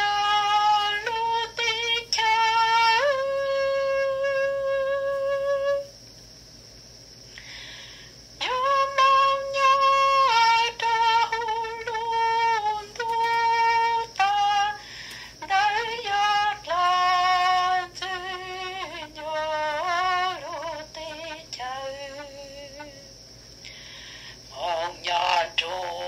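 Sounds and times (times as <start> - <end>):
woman singing unaccompanied: 0.0 - 6.0, 8.4 - 23.2, 24.4 - 26.0.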